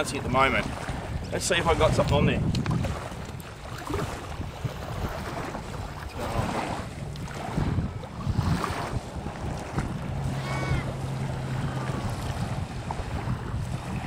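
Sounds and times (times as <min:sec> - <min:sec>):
small waves lapping: 0:00.0 - 0:14.0
wind buffeting microphone: 0:00.0 - 0:14.0.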